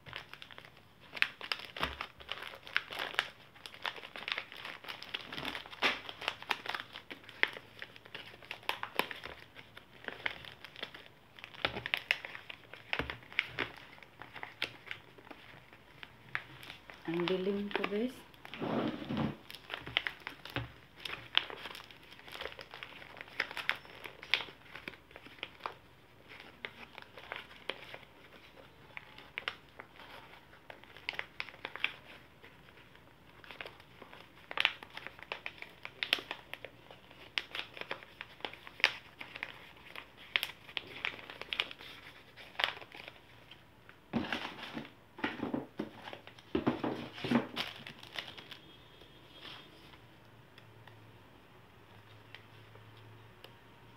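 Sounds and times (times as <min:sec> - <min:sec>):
packaging pouches crinkling: 0:00.0 - 0:50.0.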